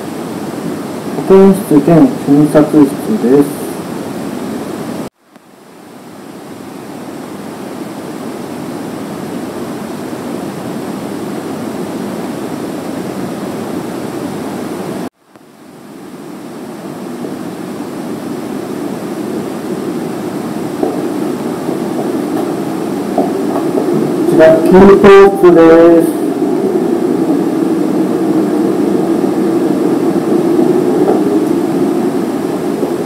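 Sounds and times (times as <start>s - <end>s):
room tone hiss: 0.0s - 33.0s.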